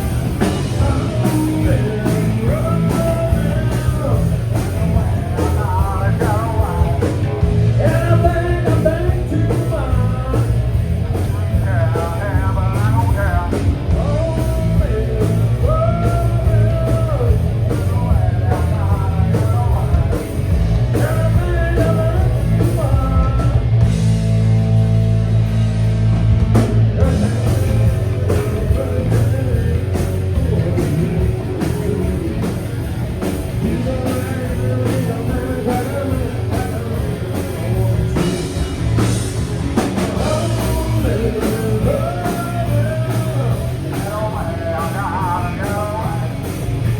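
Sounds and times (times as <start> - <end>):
person singing: 0.0 - 23.8, 27.0 - 39.1, 39.8 - 46.9
rock band playing: 0.0 - 46.9.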